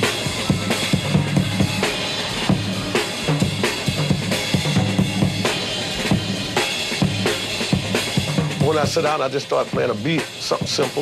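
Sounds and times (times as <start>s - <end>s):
bass line: 0.0s - 9.2s
funk drum kit groove: 0.0s - 11.0s.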